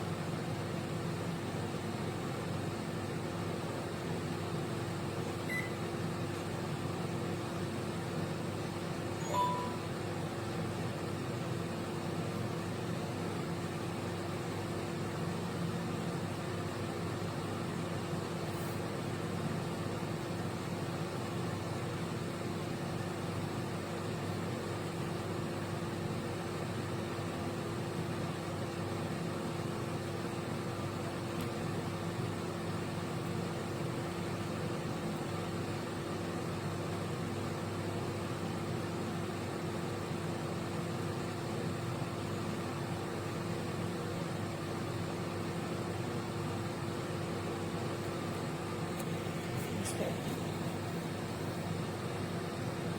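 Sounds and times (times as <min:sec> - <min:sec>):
microwave oven humming: 0:00.0 - 0:52.9.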